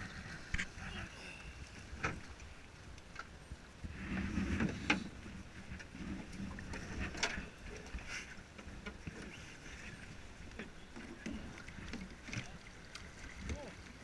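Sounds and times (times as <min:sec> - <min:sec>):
water lapping against boat: 0:00.0 - 0:14.0.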